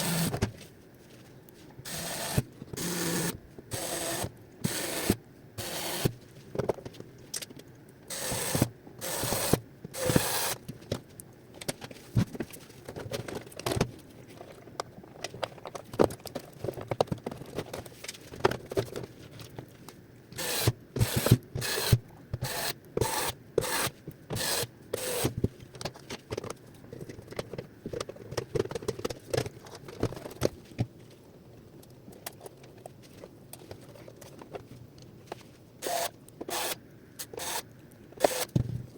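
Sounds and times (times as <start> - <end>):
plastic parts scraping and clicking: 1.7 - 38.9.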